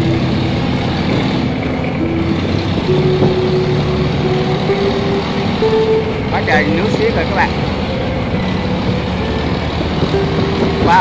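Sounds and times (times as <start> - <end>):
boat diesel engines running: 0.0 - 11.0.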